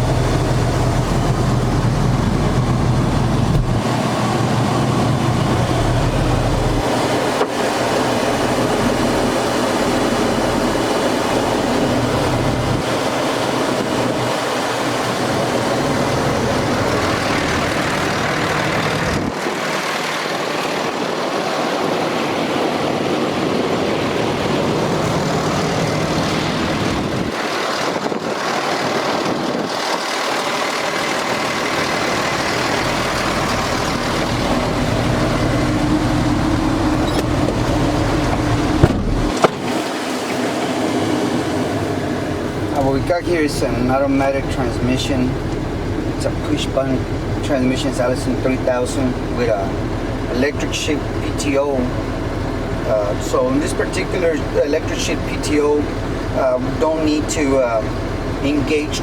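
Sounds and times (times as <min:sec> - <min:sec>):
diesel truck engine idling: 0:00.0 - 0:39.8, 0:40.4 - 0:59.0.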